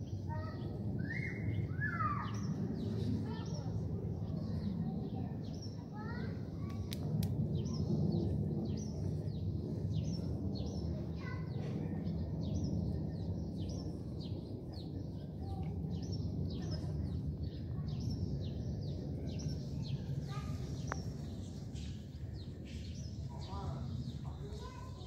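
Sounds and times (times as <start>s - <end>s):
low street noise rumble: 0.0s - 25.0s
small birds chirping: 0.0s - 25.0s.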